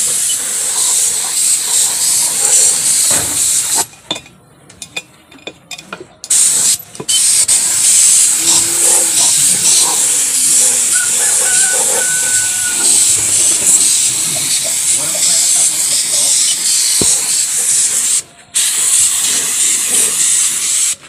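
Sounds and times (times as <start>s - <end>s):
loud high hiss: 0.0s - 3.9s, 6.3s - 21.0s.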